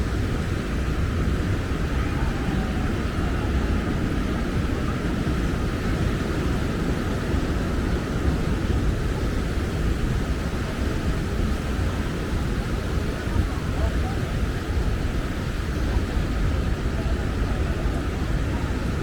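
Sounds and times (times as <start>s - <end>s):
surf washing: 0.0s - 19.0s
wind buffeting microphone: 0.0s - 19.0s.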